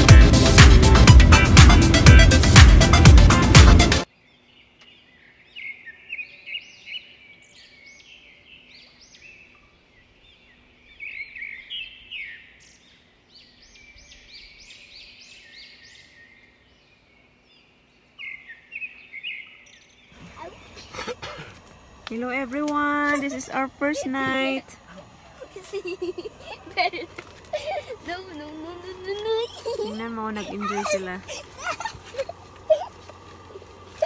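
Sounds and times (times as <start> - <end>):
faint birds chirping and singing: 4.0 - 34.0.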